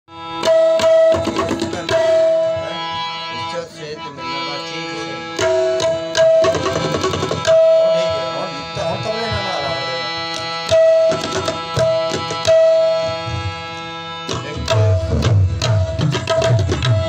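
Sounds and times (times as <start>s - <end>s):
harmonium notes and chords: 0.1s - 17.0s
tabla strokes: 0.2s - 2.9s, 5.3s - 17.0s.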